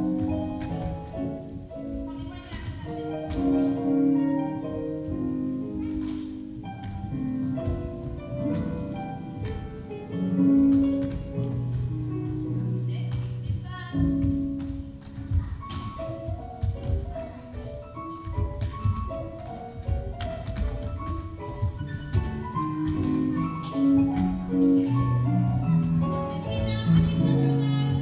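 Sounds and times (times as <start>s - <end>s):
instrumental classical music: 0.0s - 28.0s.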